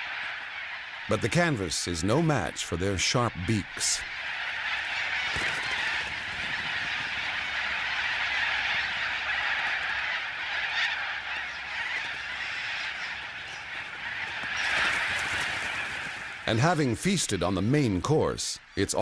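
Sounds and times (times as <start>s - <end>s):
flock of birds screeching: 0.0s - 19.0s.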